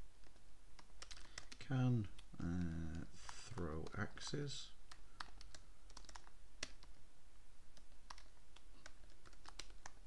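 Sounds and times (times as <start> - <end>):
typing on computer keyboard: 0.2 - 1.6, 2.2 - 7.0, 7.8 - 10.0.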